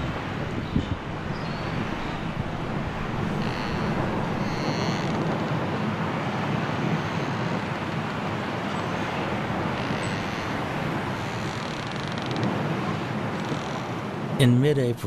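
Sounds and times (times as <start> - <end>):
strong wind through trees: 0.0 - 14.5.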